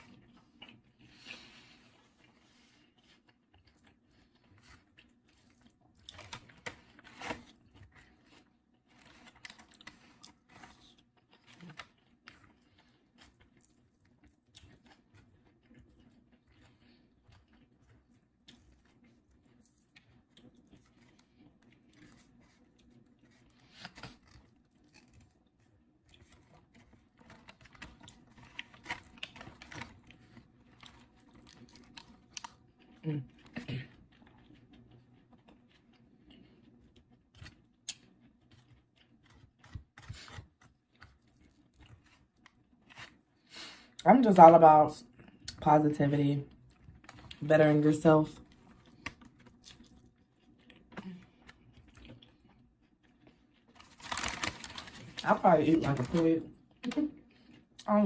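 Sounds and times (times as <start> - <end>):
person chewing food: 0.0 - 44.0, 45.0 - 45.6, 46.4 - 47.4, 48.4 - 55.3, 56.0 - 57.9.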